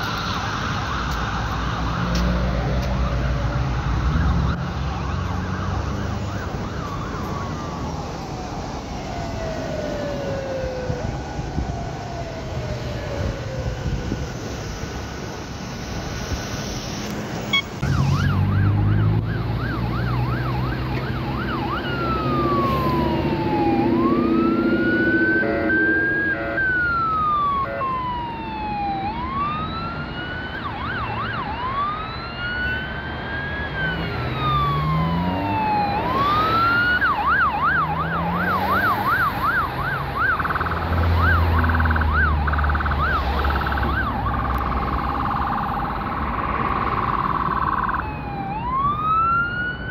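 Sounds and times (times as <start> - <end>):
emergency vehicle siren: 0.0 - 49.9
vehicle engines revving: 0.0 - 49.9.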